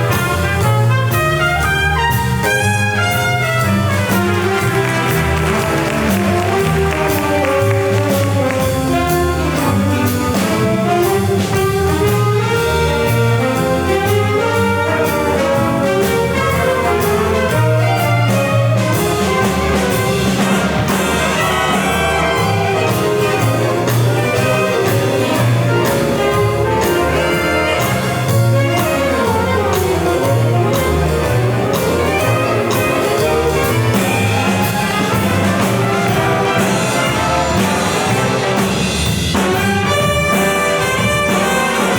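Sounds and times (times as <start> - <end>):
steady bass line: 0.0 - 41.9
student band playing: 0.0 - 41.9
trumpets and trombones: 0.0 - 41.9.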